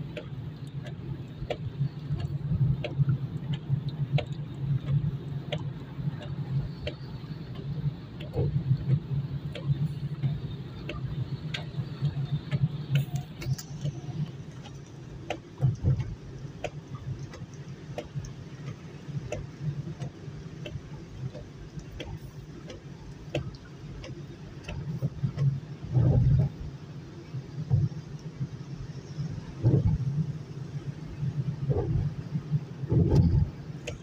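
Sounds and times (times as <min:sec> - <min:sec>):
car driving on wet road: 0:00.0 - 0:34.0
raindrops ticking on car: 0:00.0 - 0:34.0.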